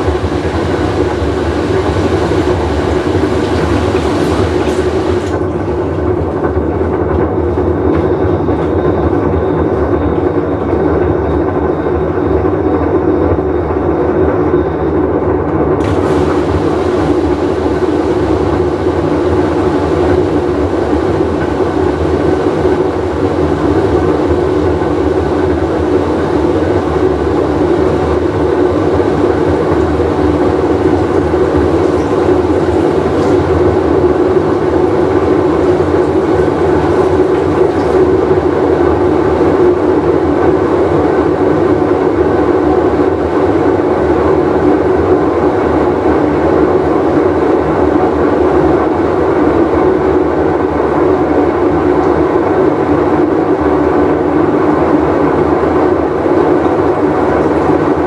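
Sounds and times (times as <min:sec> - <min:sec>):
washing machine rumbling: 0:00.0 - 0:58.0.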